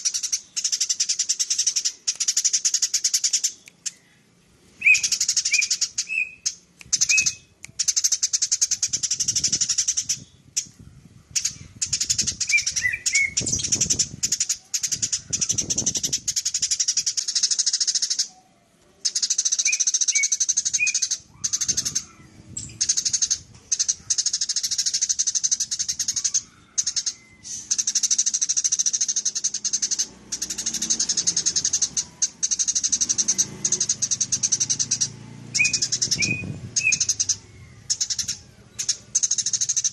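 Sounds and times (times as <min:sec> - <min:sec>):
sparrow rattling chatter: 0:00.0 - 0:04.0, 0:04.8 - 0:18.4, 0:19.0 - 0:39.9.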